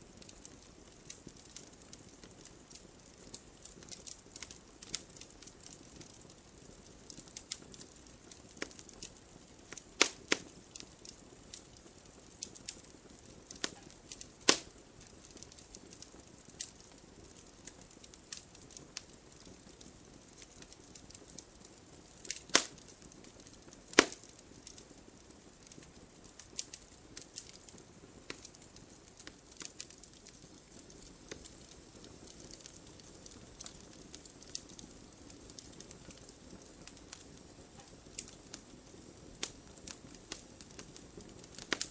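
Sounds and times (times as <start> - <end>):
fireplace fire crackling: 0.0 - 41.9.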